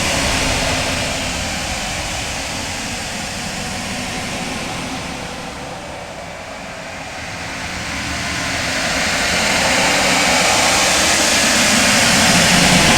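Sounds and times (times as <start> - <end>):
synthetic space ambience rushing: 0.0 - 12.9.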